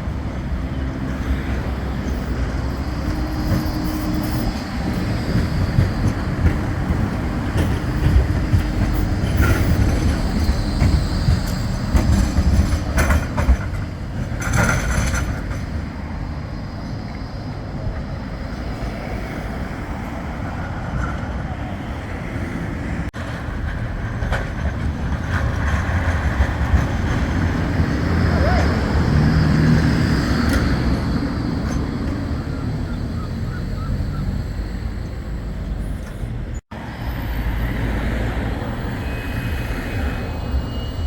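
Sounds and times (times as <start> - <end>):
tram rumbling: 0.0 - 41.0
wheels screeching: 0.0 - 41.0.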